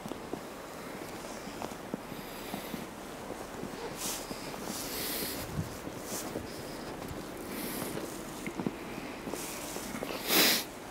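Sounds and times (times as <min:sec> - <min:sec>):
outdoor background noise: 0:00.0 - 0:10.9.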